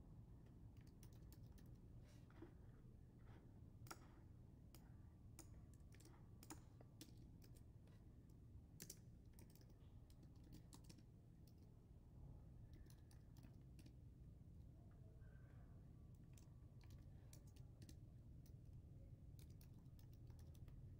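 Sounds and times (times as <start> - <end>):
low steady hum: 0.0 - 20.9
faint keyboard typing: 0.4 - 11.8, 12.6 - 14.1, 16.1 - 20.9.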